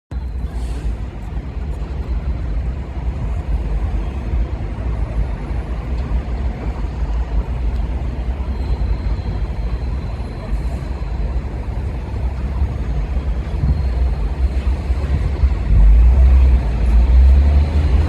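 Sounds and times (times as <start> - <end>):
subway train wheels rumbling: 0.1 - 18.0.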